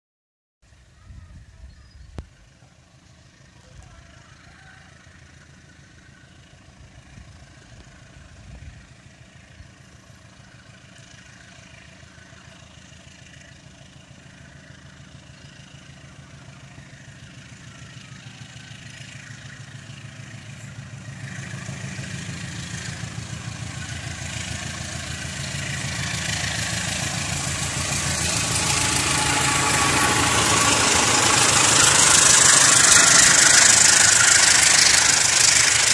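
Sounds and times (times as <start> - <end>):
diesel locomotive engine drone: 0.7 - 35.9
train wheels rushing on rails: 2.4 - 35.9.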